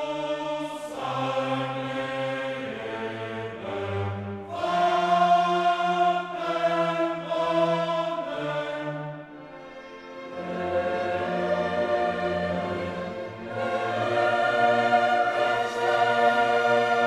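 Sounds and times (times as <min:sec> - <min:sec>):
choral and orchestral chords: 0:00.0 - 0:17.0.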